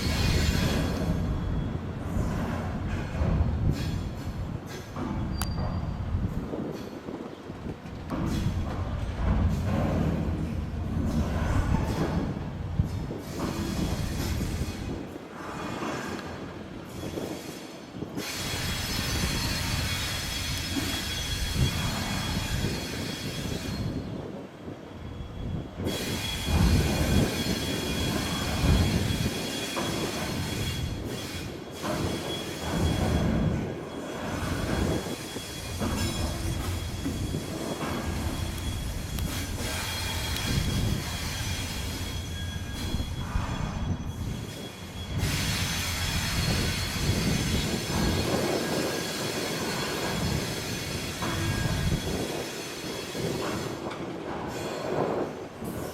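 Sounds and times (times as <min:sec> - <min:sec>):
low rumble of rolling coaches: 0:00.0 - 0:55.9
train wheels squealing on rails: 0:00.0 - 0:55.9.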